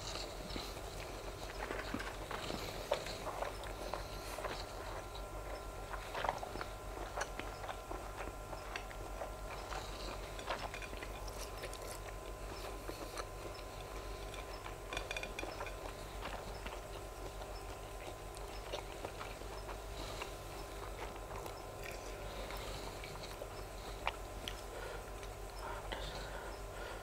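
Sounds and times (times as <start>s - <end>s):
low steady hum: 0.0s - 27.0s
person chewing: 0.1s - 26.5s.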